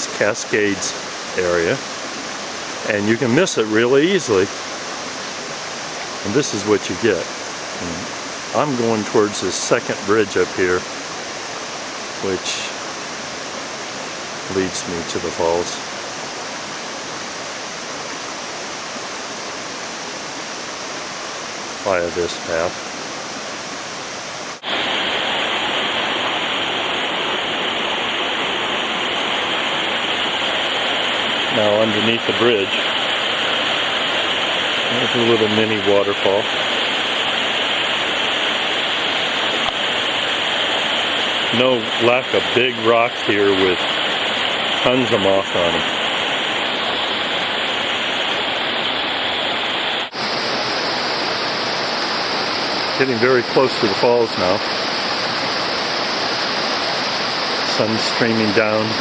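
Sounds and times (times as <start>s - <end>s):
mountain stream cascading: 0.0s - 59.0s.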